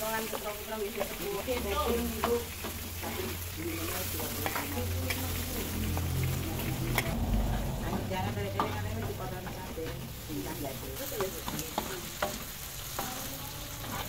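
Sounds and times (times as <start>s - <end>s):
utensil tapping a pan: 0.0s - 13.2s
food sizzling in a wok: 0.0s - 14.0s.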